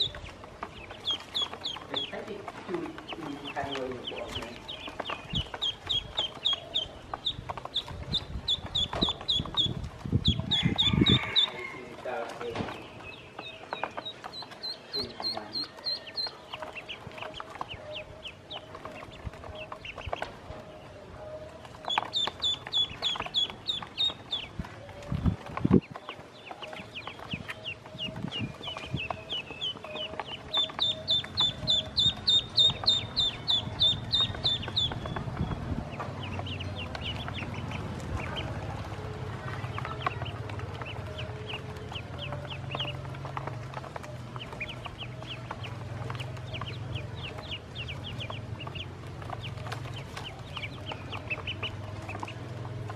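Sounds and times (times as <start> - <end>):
ducklings peeping: 0.0 - 52.9.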